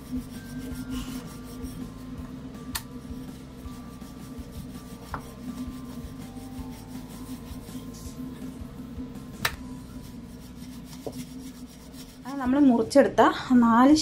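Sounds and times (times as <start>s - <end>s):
rolling pin rubbing on dough: 0.0s - 12.8s
steady low hum: 0.0s - 14.0s.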